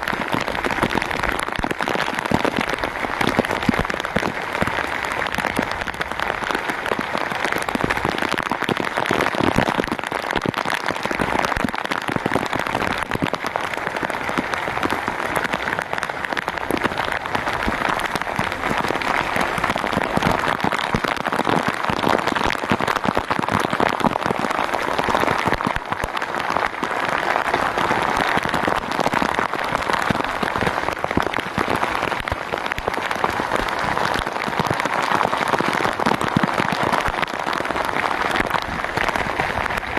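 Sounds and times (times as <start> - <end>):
rain falling on boat and sea: 0.0 - 39.9.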